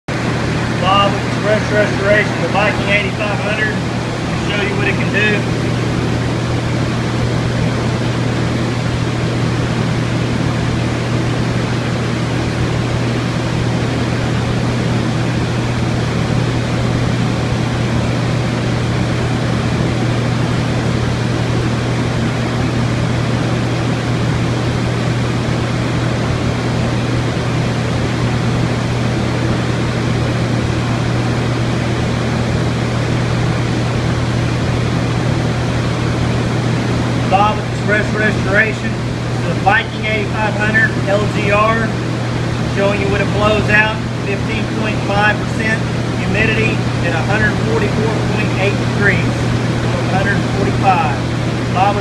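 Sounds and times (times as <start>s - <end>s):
dehumidifier humming: 0.0s - 52.0s
rush of air from blower: 0.1s - 52.0s.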